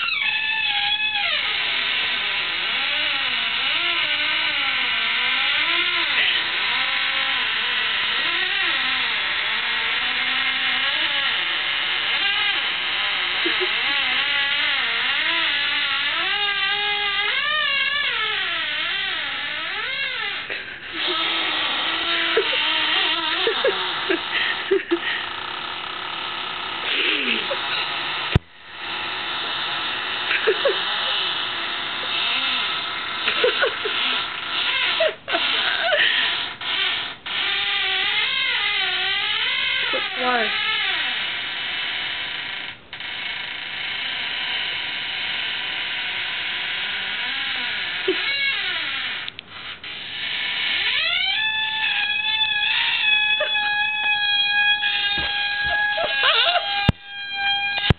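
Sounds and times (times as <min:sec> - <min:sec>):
refrigerator squealing: 0:00.0 - 0:57.9.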